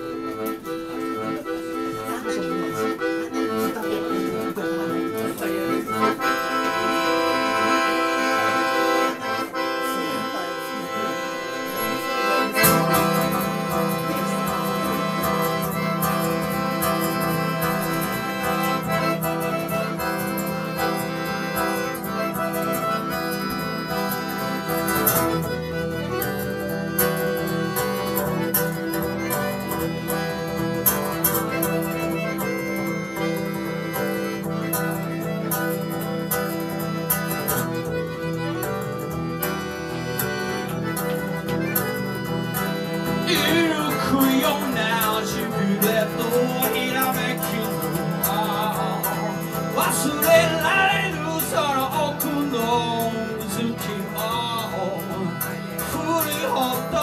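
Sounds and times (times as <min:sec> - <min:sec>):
acoustic guitar: 0:00.0 - 0:57.0
button accordion: 0:00.0 - 0:57.0
wavering lead melody with vibrato: 0:00.0 - 0:57.0.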